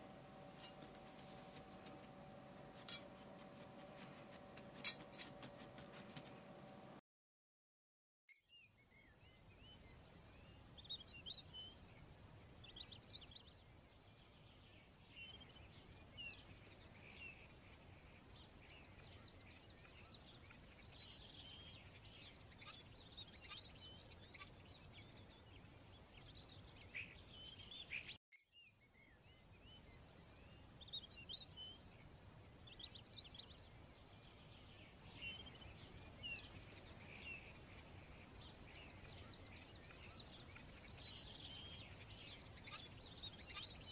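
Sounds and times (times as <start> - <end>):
low steady hiss: 0.0 - 7.0, 8.6 - 43.9
faint bird chirps: 8.3 - 43.9.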